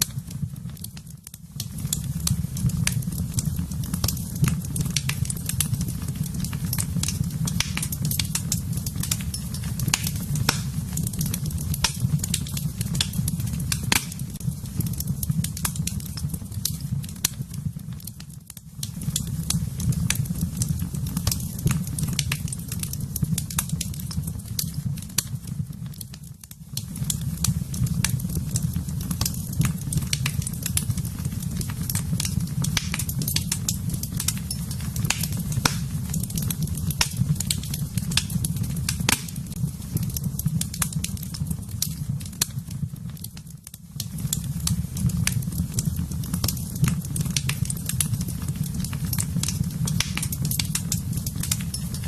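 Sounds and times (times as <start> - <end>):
fire crackling in a fireplace: 0.0 - 52.0.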